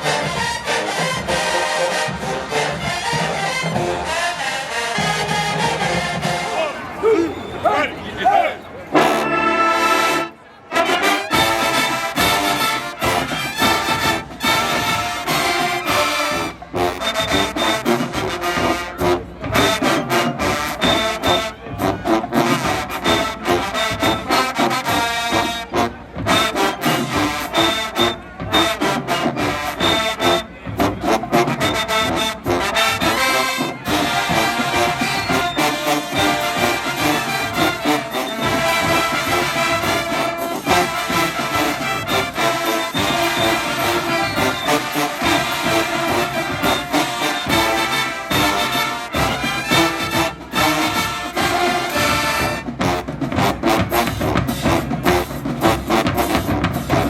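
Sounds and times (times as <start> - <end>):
marching band playing brass music: 0.0 - 57.0
trombones and trumpets: 0.0 - 57.0
driving drum beat: 11.3 - 57.0.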